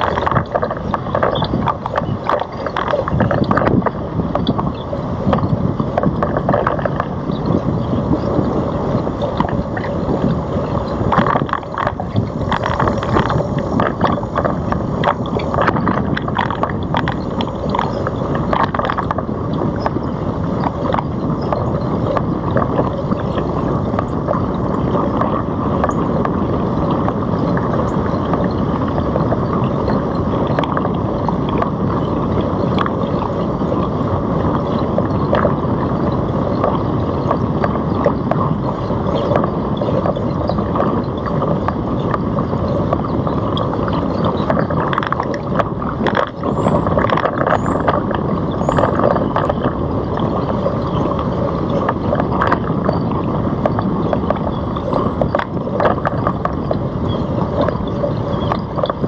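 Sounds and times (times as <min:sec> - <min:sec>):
bike ride rumble: 0:00.0 - 0:59.0
small clicks and rattles: 0:00.0 - 0:59.0
wind rushing over microphone: 0:00.0 - 0:59.0.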